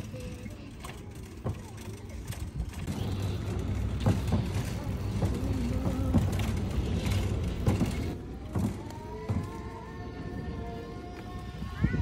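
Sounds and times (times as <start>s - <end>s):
shopping cart wheels rumbling: 0.0s - 10.4s.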